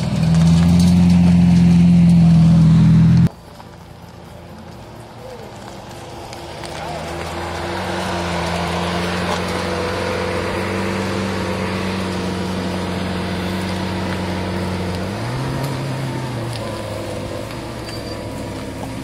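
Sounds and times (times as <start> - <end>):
car engine idling: 0.0 - 19.0
car pulling away: 0.0 - 19.0.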